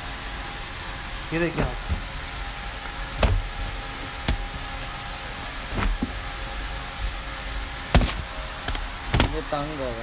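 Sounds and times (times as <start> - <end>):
air conditioning hum: 0.0 - 10.0.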